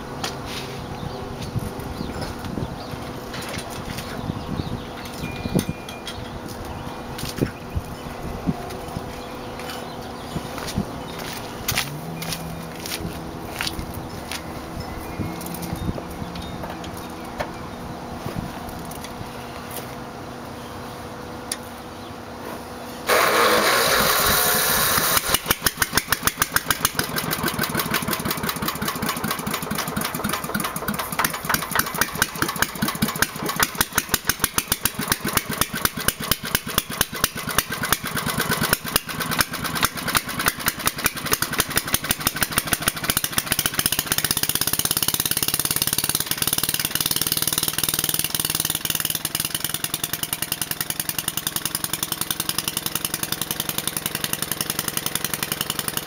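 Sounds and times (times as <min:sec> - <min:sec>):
engine running without muffler: 0:00.0 - 0:56.0.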